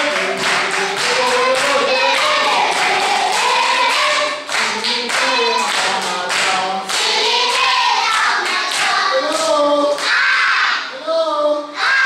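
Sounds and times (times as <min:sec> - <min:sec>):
children clapping: 0:00.0 - 0:10.4
children singing: 0:00.0 - 0:11.1, 0:11.7 - 0:12.0.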